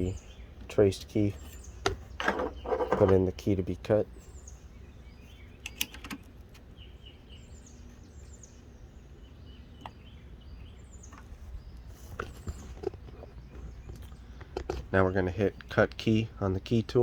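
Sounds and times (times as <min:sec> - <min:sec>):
birds chirping faintly: 0:00.0 - 0:17.0
low steady hum: 0:00.0 - 0:17.0.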